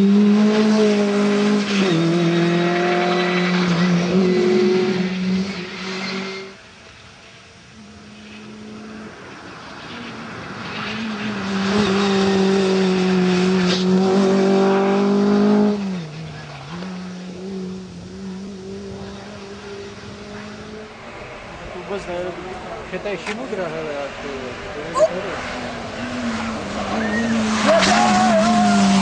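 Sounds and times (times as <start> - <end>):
rally car engine at high revs: 0.0 - 29.0.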